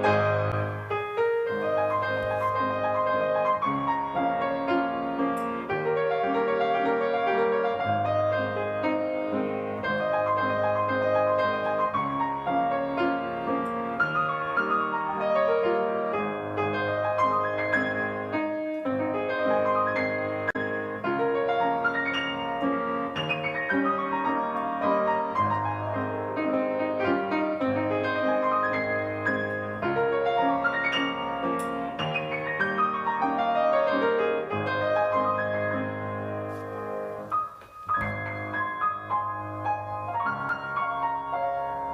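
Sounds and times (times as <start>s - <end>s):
solo piano music: 0.0s - 41.9s.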